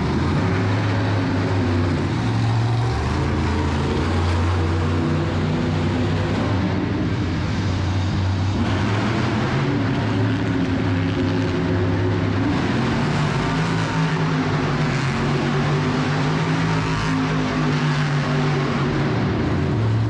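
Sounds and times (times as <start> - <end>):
monster truck engine running: 0.0 - 20.0.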